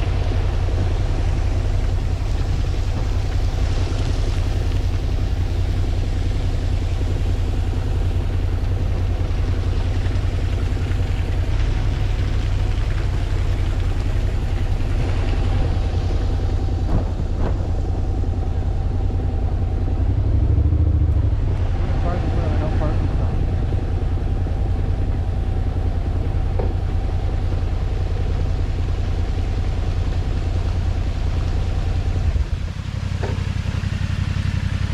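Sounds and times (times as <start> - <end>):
motorcycle engine cruising: 0.0 - 34.9
wind rumble on microphone: 0.0 - 34.9.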